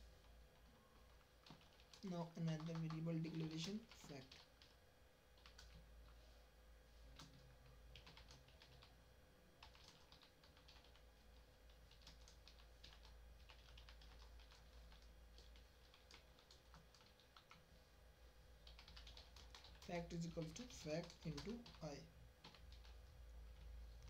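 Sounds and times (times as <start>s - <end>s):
faint hum: 0.0s - 24.0s
computer keyboard typing: 0.5s - 4.8s, 5.4s - 5.8s, 7.1s - 9.0s, 9.6s - 17.6s, 18.6s - 23.7s.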